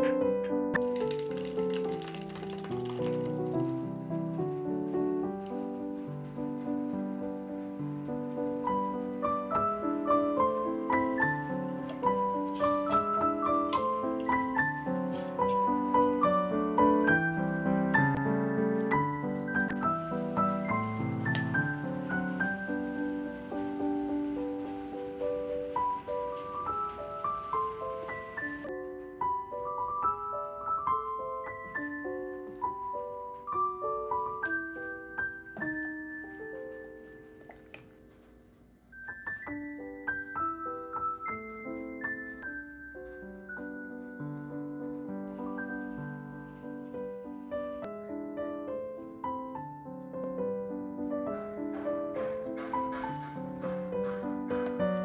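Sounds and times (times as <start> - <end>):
gentle piano music: 0.0 - 55.0.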